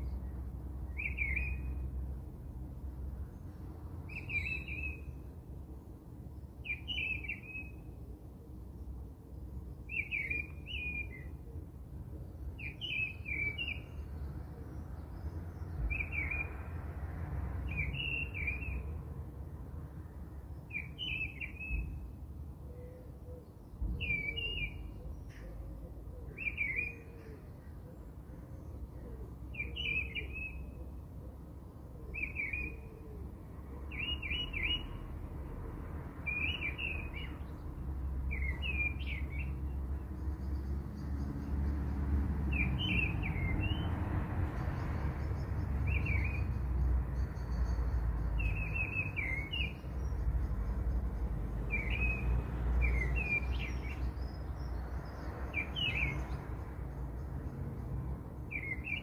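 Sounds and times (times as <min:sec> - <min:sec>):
bird chirping: 0:00.0 - 0:02.1, 0:03.3 - 0:05.3, 0:06.3 - 0:08.0, 0:08.7 - 0:11.4, 0:12.2 - 0:16.8, 0:17.6 - 0:19.0, 0:20.4 - 0:31.0, 0:31.6 - 0:35.1, 0:36.2 - 0:59.0.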